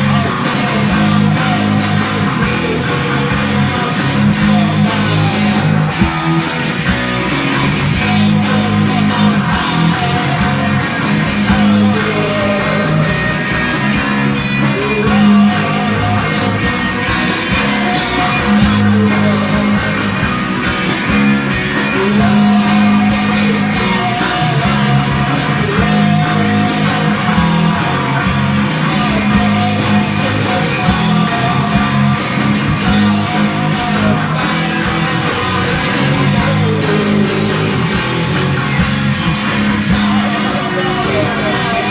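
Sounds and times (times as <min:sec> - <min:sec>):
distorted electric guitar: 0:00.0 - 0:41.9
rock band playing live: 0:00.0 - 0:41.9.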